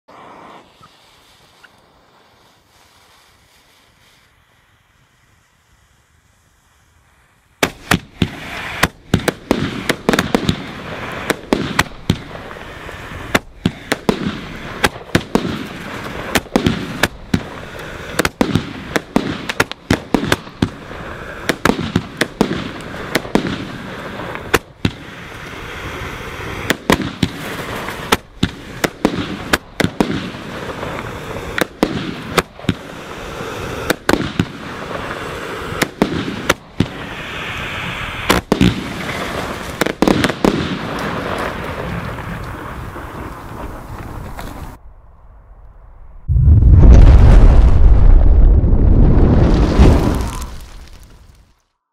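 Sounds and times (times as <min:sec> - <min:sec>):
firework launches and bursts: 0:00.1 - 0:44.8, 0:46.2 - 0:51.7.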